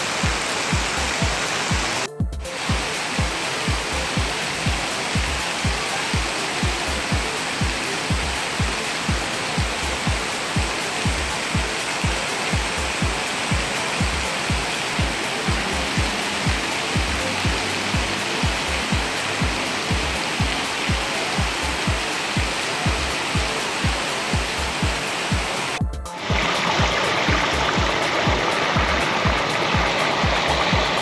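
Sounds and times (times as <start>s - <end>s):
heavy rain falling: 0.0s - 31.0s
music with low pulsing beat: 0.0s - 31.0s.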